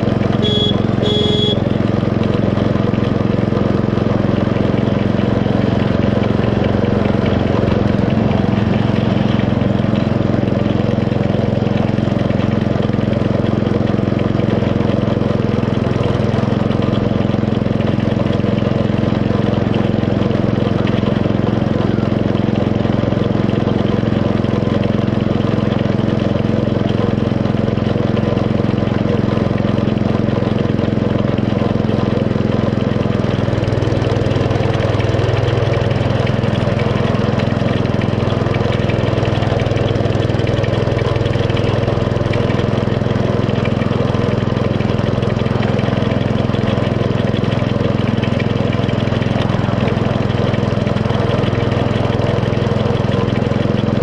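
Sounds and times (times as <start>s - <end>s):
small locomotive engine running: 0.0s - 54.0s.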